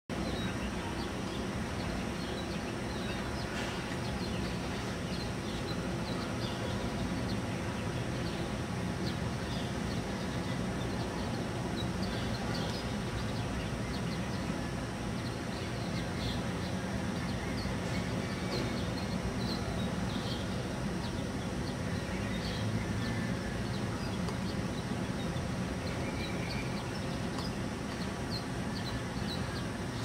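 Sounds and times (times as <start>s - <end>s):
birds chirping: 0.1s - 30.0s
low outdoor rumble: 0.1s - 30.0s.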